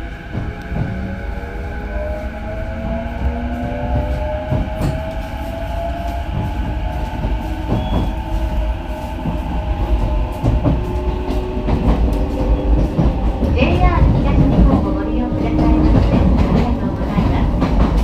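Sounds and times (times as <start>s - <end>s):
low train rumble: 0.0s - 18.0s.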